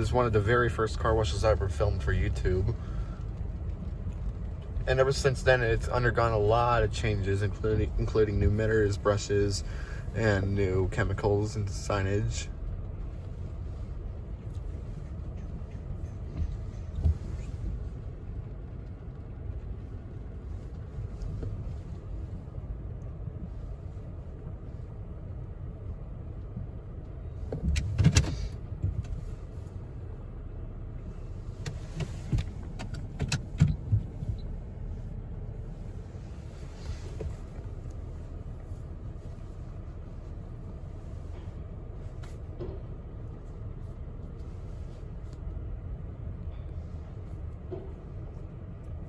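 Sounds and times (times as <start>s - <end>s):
car wash low rumble: 0.0s - 49.0s.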